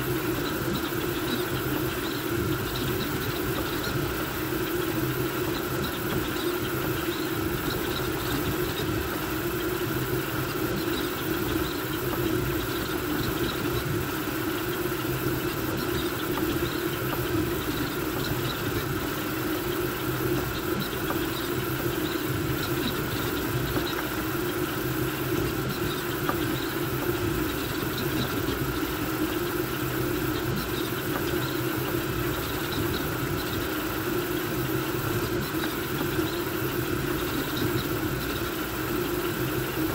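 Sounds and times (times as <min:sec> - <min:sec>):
cooling fans whirring: 0:00.0 - 0:39.9.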